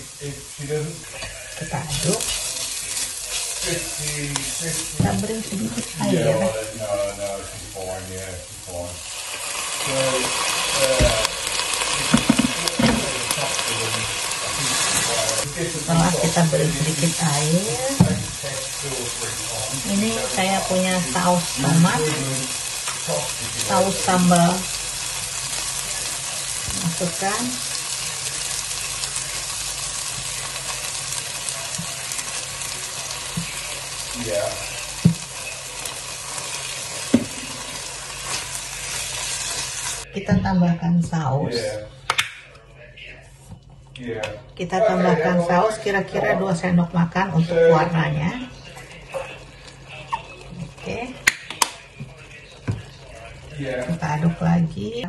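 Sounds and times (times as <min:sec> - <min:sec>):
water sizzling in hot pan: 0:00.0 - 0:40.1, 0:44.9 - 0:55.0.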